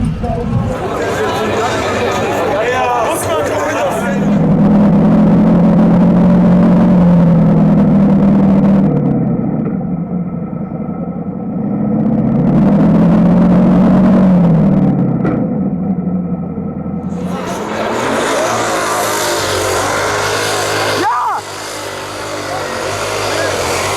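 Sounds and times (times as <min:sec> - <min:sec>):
tractor engine revving hard: 0:00.0 - 0:23.9.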